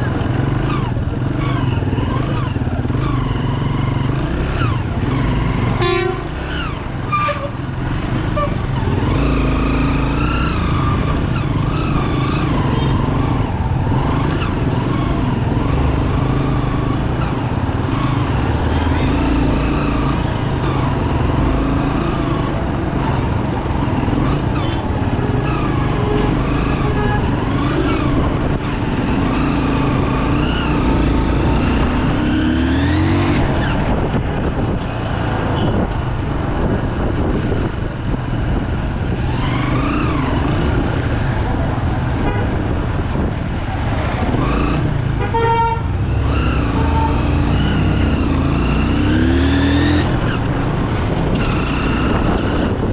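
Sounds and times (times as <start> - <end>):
motorcycle engine revving: 0.0 - 42.9, 43.7 - 52.9.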